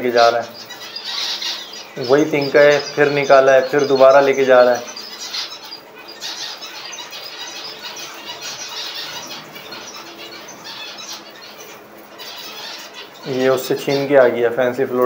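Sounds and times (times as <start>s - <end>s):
zebra finches chattering: 0.0s - 15.0s.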